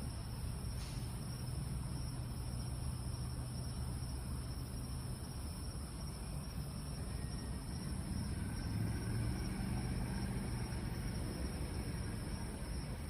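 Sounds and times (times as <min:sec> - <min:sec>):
constant low rumble: 0:00.0 - 0:13.0
crickets chirping: 0:00.0 - 0:13.0.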